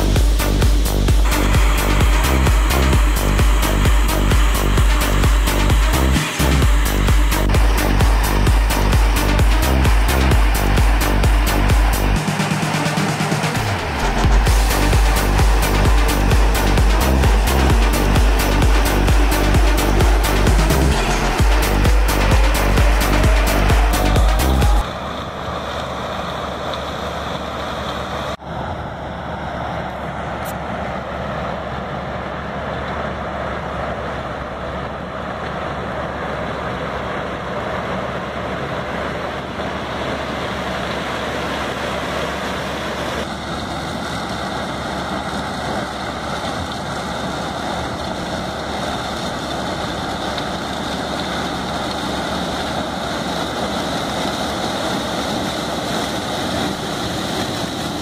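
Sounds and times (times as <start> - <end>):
combine harvester working: 0.0 - 58.0.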